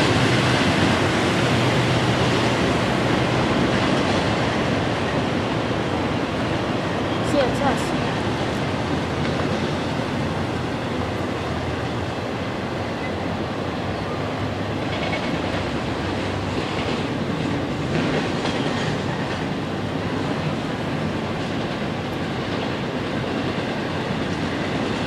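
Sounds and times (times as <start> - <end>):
freight train wheels on track: 0.0 - 25.0.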